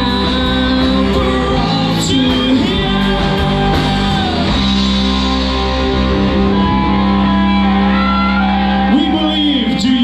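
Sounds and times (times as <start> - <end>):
electric guitar held notes: 0.0 - 10.0
live rock band playing: 0.0 - 10.0.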